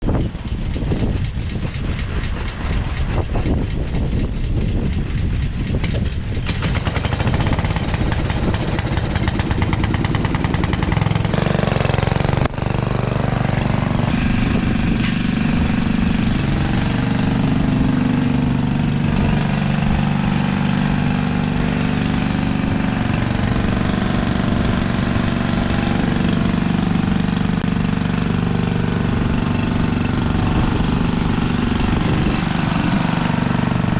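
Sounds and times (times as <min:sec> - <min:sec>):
garden tractor engine running: 0:00.0 - 0:33.9.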